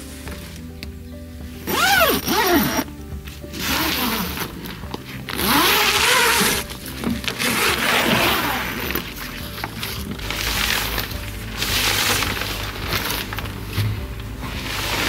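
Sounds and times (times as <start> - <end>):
background music: 0.0 - 15.0
tent fabric rustling: 1.5 - 15.0
zipper runs: 1.6 - 2.9, 3.5 - 15.0.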